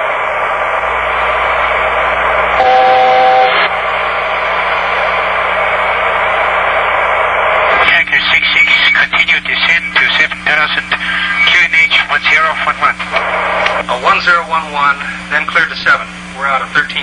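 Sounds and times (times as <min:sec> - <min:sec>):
low hum: 0:00.0 - 0:15.3
static-like hiss: 0:00.0 - 0:17.0.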